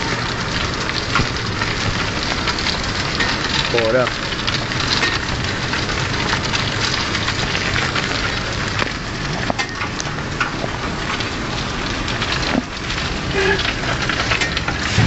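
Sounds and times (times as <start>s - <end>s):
cart rattling over pavement: 0.0s - 15.0s.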